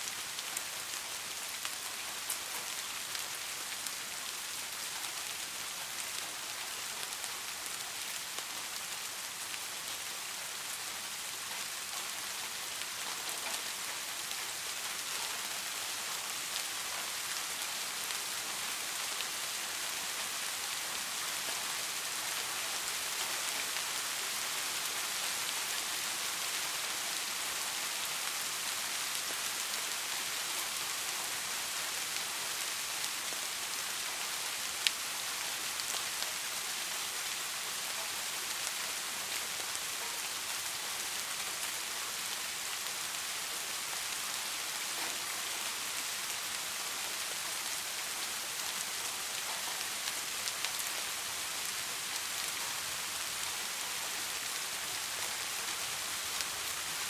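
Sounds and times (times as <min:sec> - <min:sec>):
rain pattering on a surface: 0:00.0 - 0:57.0.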